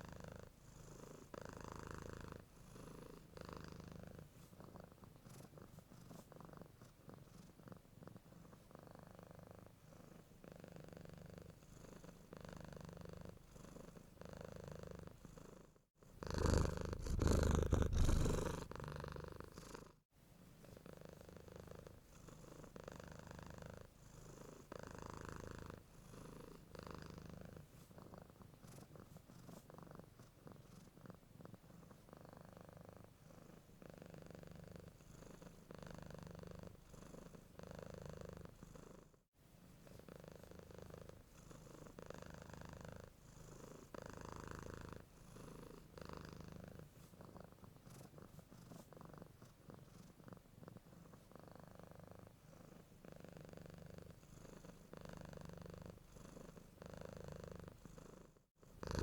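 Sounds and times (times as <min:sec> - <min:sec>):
cat purring: 0:00.0 - 0:39.2, 0:39.8 - 0:59.0.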